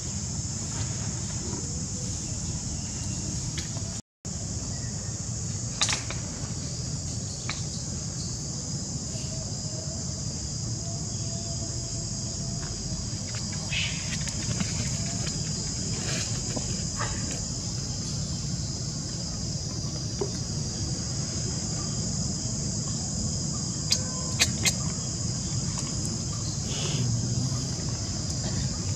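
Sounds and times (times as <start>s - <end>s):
insect chorus drone: 0.0s - 28.9s.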